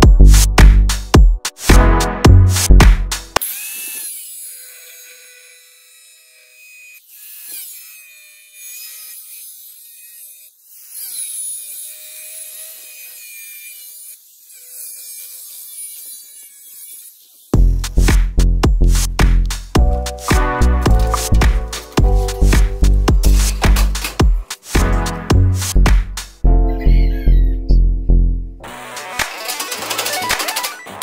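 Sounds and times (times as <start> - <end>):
angle grinder cutting steel: 2.6 - 27.5, 28.6 - 31.0.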